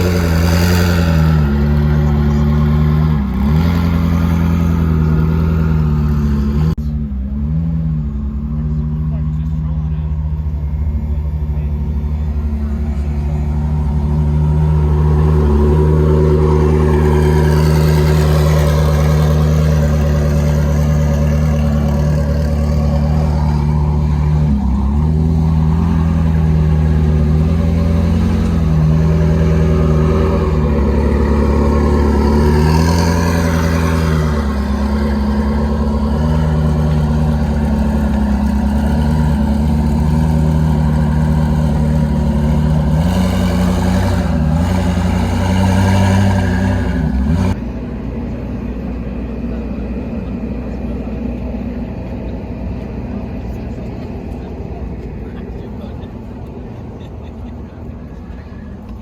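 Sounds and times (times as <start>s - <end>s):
car engine throttle blips: 0.0s - 59.0s.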